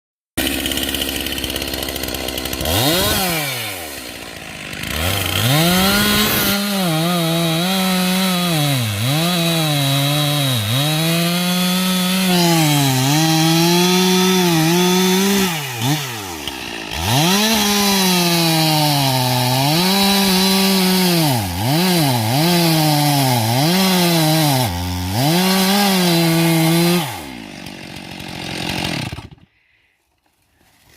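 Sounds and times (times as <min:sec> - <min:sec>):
chainsaw cutting wood: 0:00.4 - 0:29.5.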